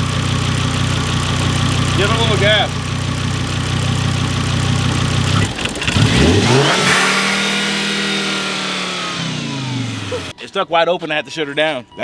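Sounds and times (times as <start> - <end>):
car engine idling and revving: 0.0 - 10.4.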